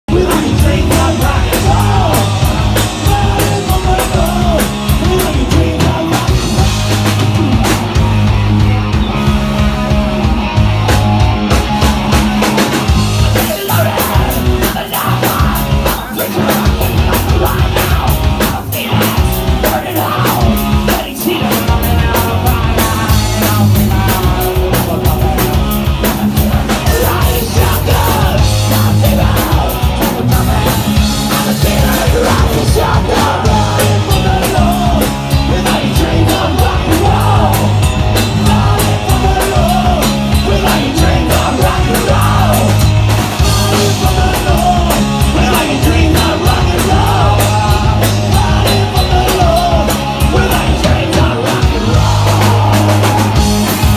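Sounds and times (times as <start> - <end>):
pounding drum kit: 0.0 - 53.9
person shouting and singing: 0.1 - 7.8, 12.4 - 53.6
electric guitar: 0.1 - 53.9.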